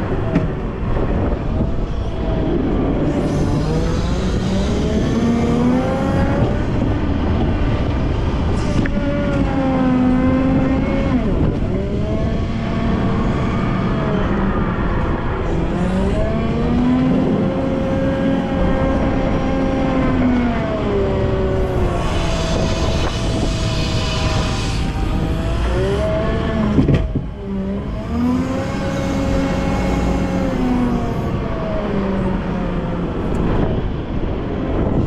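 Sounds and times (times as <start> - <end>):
wheel loader diesel engine: 0.0 - 35.0.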